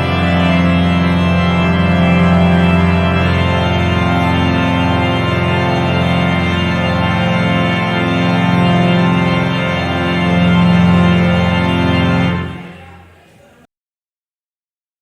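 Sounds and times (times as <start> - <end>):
organ playing sustained chords: 0.0 - 13.2.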